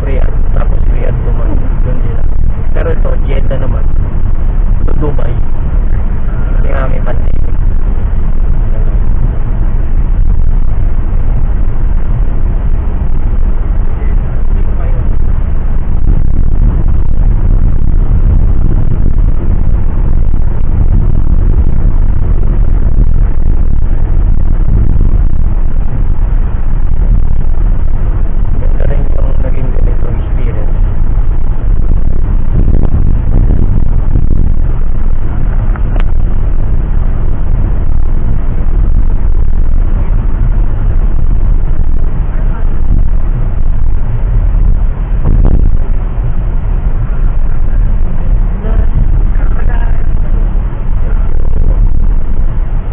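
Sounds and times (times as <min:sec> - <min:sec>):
jet engines roaring in cabin: 0:00.0 - 0:52.9.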